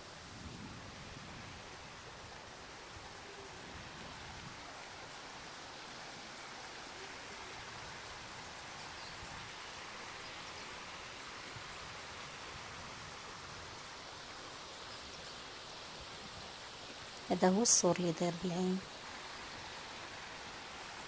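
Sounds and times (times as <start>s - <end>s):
stream running over pebbles: 0.0s - 21.0s.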